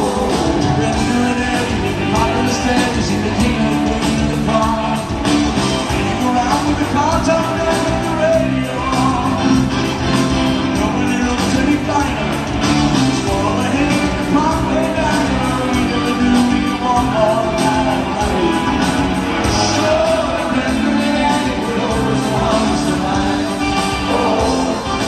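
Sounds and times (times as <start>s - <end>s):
live rock band with piano: 0.0s - 25.0s
person singing: 0.0s - 25.0s.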